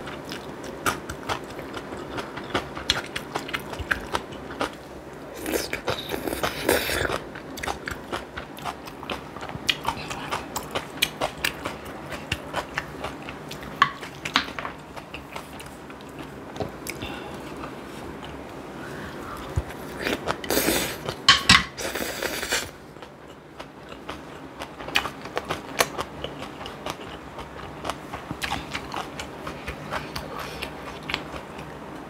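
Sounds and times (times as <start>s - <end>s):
person chewing crunchy food: 0.0s - 31.8s.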